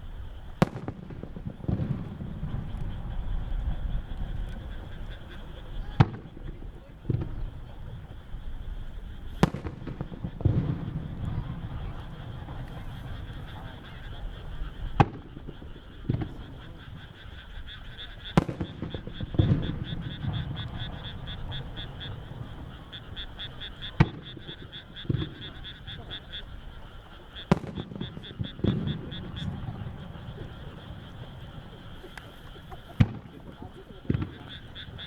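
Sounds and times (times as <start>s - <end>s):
frogs calling: 0.0s - 35.0s
low rolling booms: 0.0s - 35.0s
firework shells bursting: 0.4s - 35.0s.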